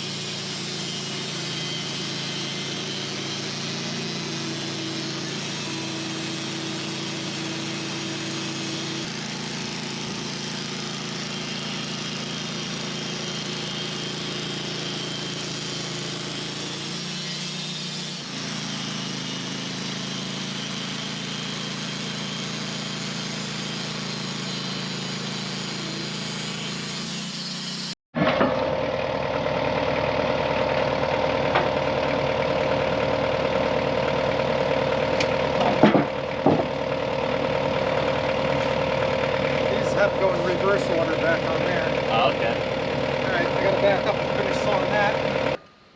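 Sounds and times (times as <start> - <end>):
bandsaw sawmill sawing log: 0.0 - 45.6.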